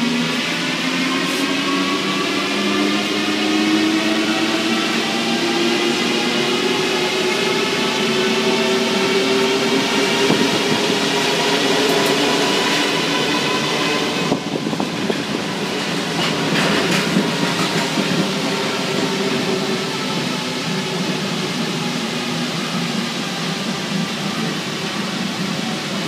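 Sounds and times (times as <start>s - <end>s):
train running through tunnel: 0.0s - 26.0s.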